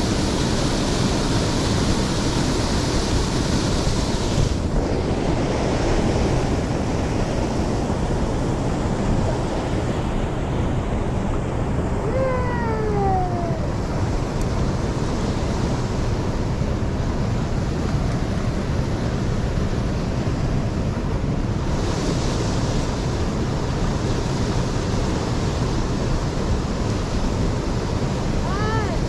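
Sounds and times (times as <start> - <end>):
mountain stream rushing: 0.0 - 29.0
wind on microphone: 0.0 - 29.0.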